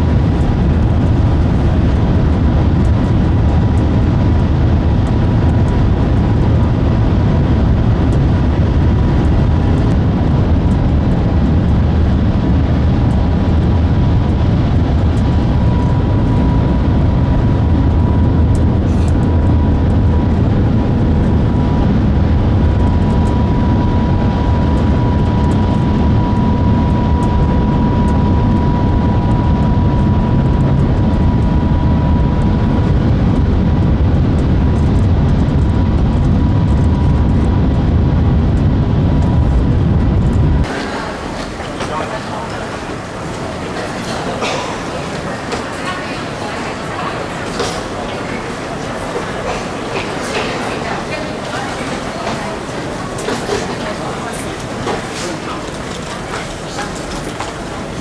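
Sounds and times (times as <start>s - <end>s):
train low rumble and air rush: 0.0s - 58.0s.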